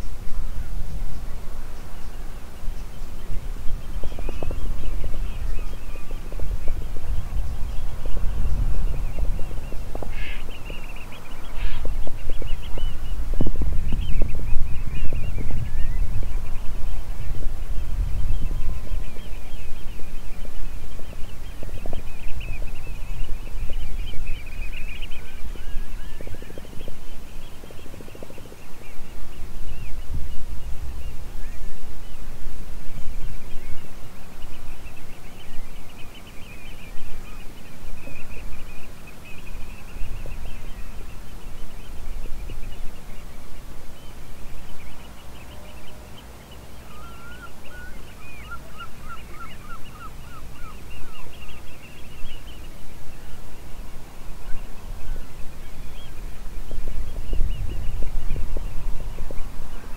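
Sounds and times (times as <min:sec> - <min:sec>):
quick repeated low bird notes: 0:00.0 - 0:59.9
small birds chirping: 0:00.0 - 0:59.9.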